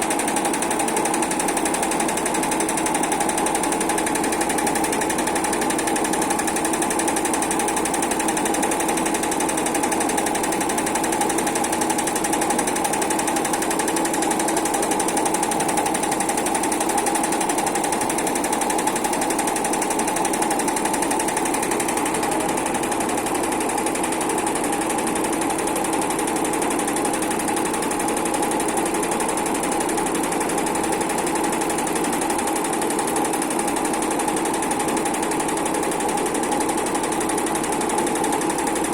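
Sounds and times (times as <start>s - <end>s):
sewing machine hum: 0.0s - 38.9s
sewing machine needle chatter: 0.0s - 38.9s.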